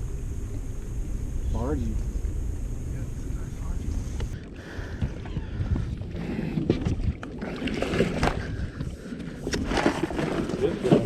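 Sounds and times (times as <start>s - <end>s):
water around boat: 0.0s - 11.0s
wind rumbling on microphone: 0.0s - 11.0s.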